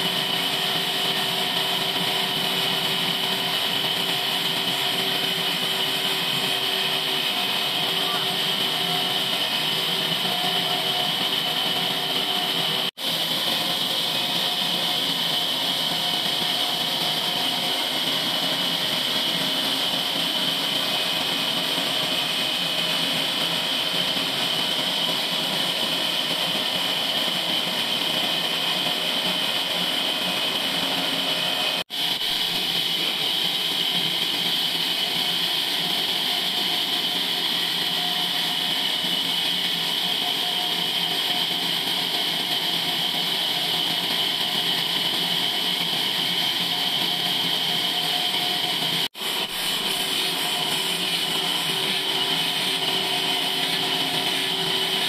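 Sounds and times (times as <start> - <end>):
band saw cutting log: 0.0 - 55.0
high-pitched blade whine: 0.0 - 55.0
sawmill motor: 0.0 - 55.0.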